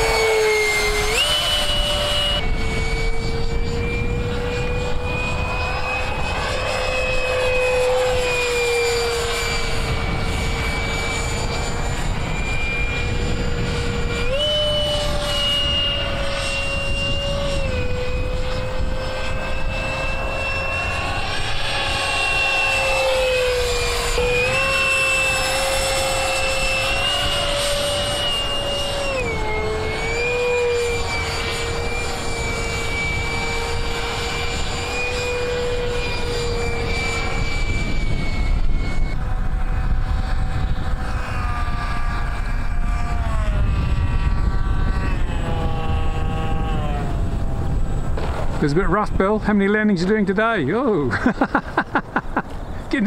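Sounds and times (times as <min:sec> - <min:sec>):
low wind rumble: 0:00.0 - 0:53.0
model plane motor whine: 0:00.0 - 0:53.0.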